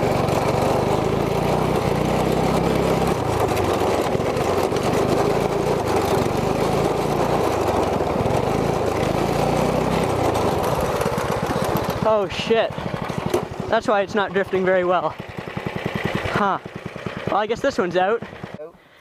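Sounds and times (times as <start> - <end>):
go-kart engine running: 0.0 - 18.7.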